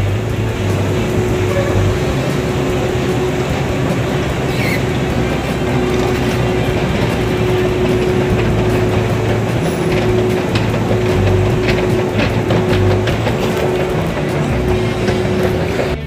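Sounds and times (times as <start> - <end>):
escalator mechanical hum: 0.0 - 16.0.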